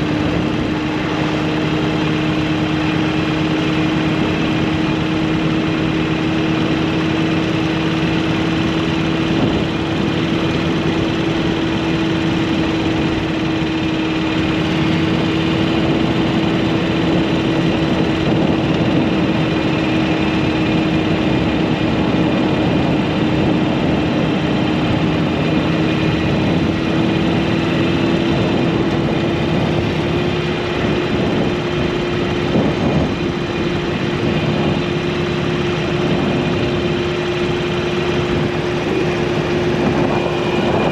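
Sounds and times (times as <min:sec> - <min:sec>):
motorcycle engine running: 0:00.0 - 0:40.9
road noise: 0:00.0 - 0:40.9
wind noise: 0:00.0 - 0:40.9.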